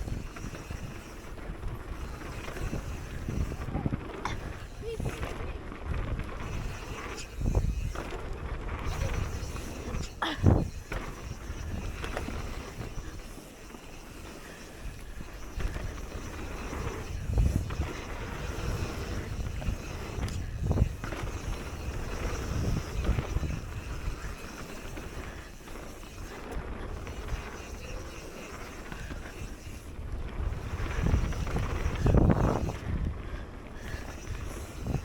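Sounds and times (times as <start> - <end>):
bike tyres rolling on dirt: 0.0 - 35.0
wind on microphone: 0.0 - 35.0.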